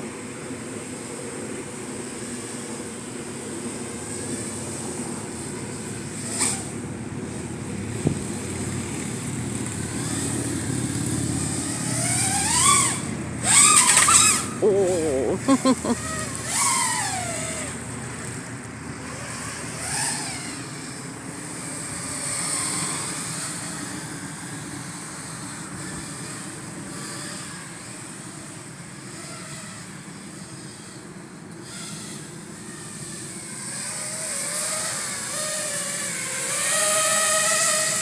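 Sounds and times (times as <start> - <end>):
quadcopter motors whining: 0.0 - 38.0.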